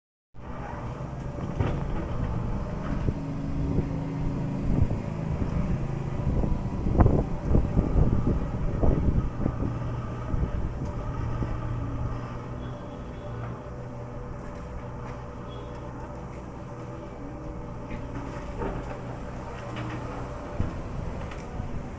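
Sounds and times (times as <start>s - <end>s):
excavator diesel engine running: 0.4s - 21.9s
knocks and clanks: 0.6s - 5.9s, 9.4s - 21.9s.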